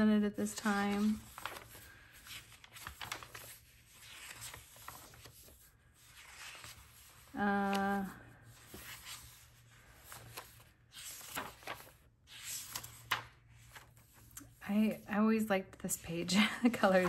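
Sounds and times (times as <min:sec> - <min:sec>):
paper pages turning and rustling: 0:00.4 - 0:15.0, 0:16.7 - 0:17.0.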